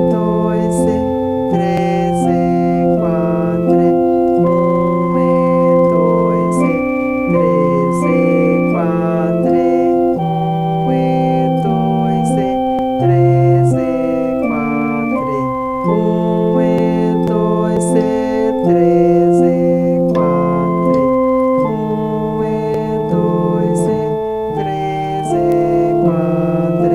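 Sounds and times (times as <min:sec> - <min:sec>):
electronic organ melody: 0:00.0 - 0:26.9.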